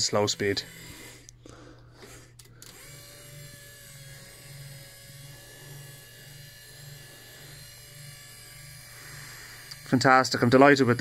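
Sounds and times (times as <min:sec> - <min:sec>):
high motor whine: 0:00.0 - 0:11.0
low mechanical pulse: 0:00.0 - 0:11.0
wiper motor humming: 0:00.0 - 0:11.0.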